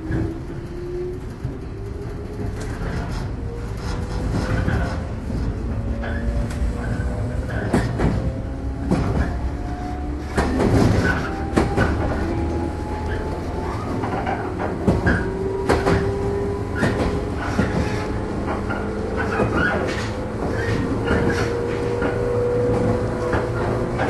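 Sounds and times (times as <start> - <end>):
low train rumble: 0.0 - 24.0
wheels clacking over rail joints: 0.0 - 24.0.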